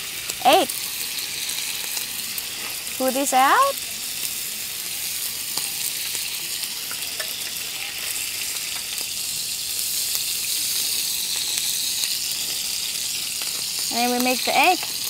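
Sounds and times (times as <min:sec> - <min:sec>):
fat sizzling in a frying pan: 0:00.0 - 0:15.0.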